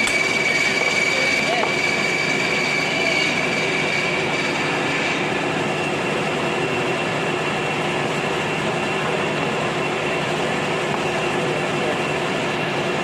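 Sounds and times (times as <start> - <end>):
workshop machine whining: 0.0 - 13.0.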